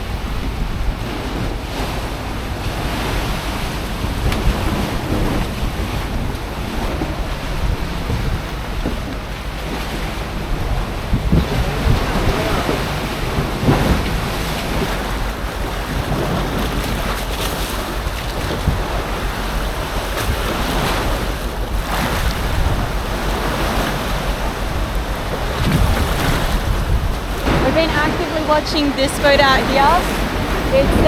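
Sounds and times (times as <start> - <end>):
waves breaking: 0.0 - 31.0
wind gusting on microphone: 0.0 - 31.0.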